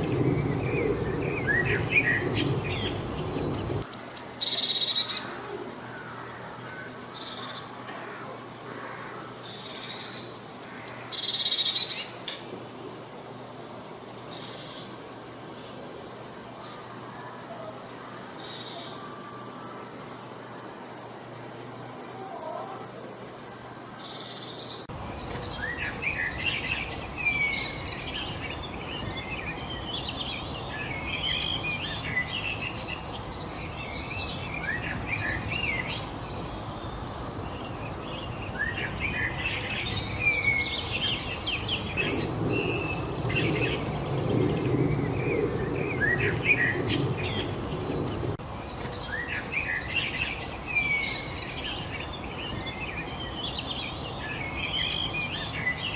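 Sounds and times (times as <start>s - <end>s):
birds chirping and singing: 0.0s - 12.4s, 16.5s - 55.9s
steady outdoor hiss: 0.0s - 55.9s.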